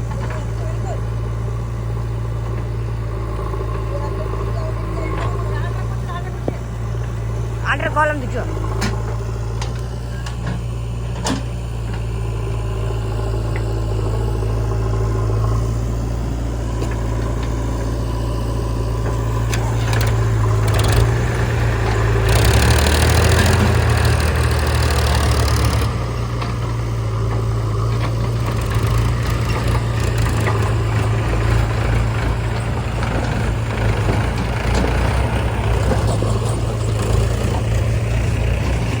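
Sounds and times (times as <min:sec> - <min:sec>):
diesel engines running: 0:00.0 - 0:39.0.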